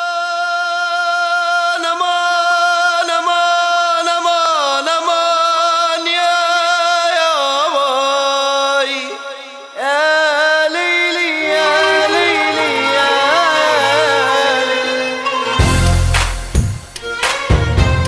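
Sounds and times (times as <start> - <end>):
man singing long held notes: 0.0 - 15.8.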